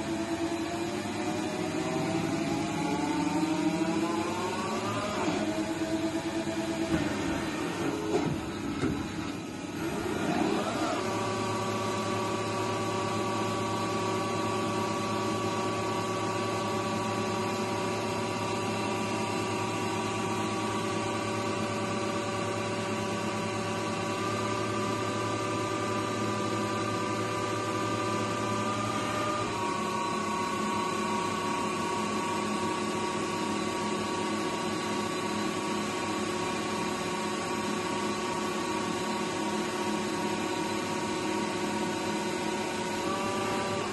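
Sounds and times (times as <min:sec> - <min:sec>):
lathe spindle whine: 0:00.0 - 0:08.1, 0:09.3 - 0:43.9.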